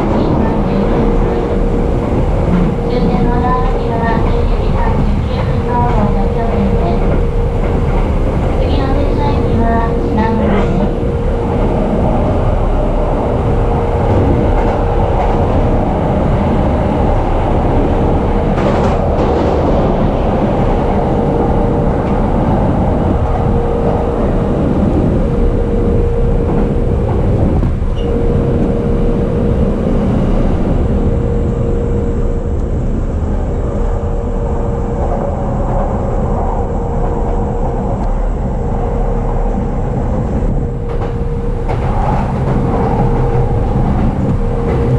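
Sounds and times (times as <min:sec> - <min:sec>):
constant hum: 0:00.0 - 0:44.9
train wheels rumbling on rails: 0:00.0 - 0:44.9.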